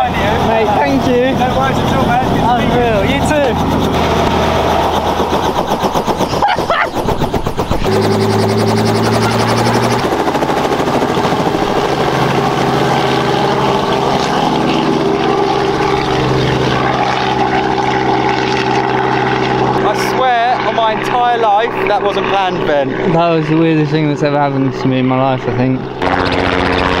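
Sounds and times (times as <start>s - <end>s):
helicopter rotor and engine: 0.0s - 27.0s.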